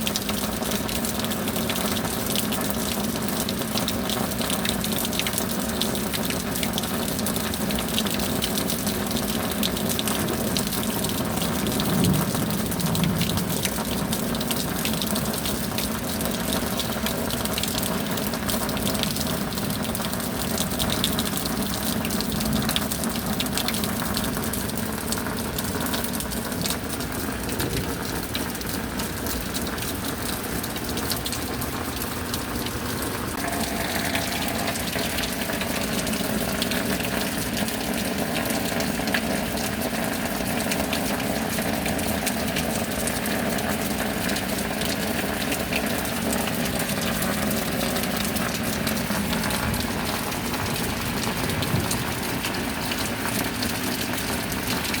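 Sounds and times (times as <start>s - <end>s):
steady rain: 0.0s - 55.0s
water gushing and running: 0.0s - 55.0s.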